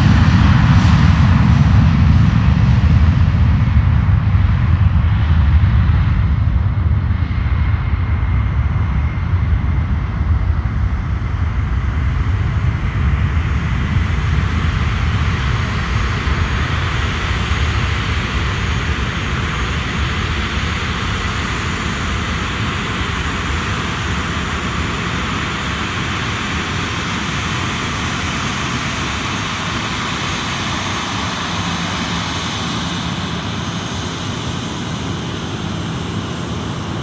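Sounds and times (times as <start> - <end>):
jet engines roaring on takeoff: 0.0 - 37.0.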